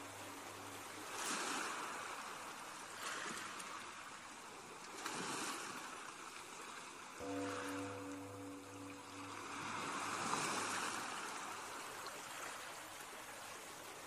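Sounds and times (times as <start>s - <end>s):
ocean waves washing in: 0.0s - 5.9s, 7.2s - 13.2s.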